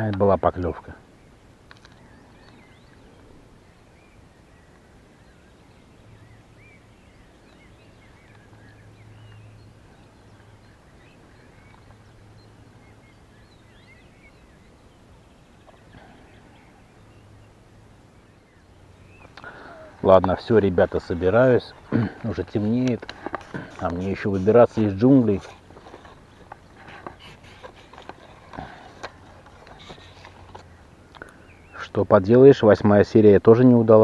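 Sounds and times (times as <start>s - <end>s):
faint songbirds chirping: 0.0s - 34.0s.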